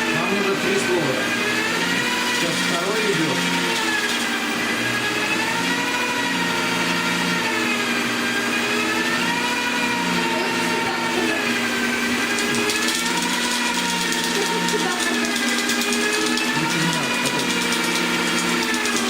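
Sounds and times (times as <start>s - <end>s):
electric drill motor whine: 0.0s - 19.0s.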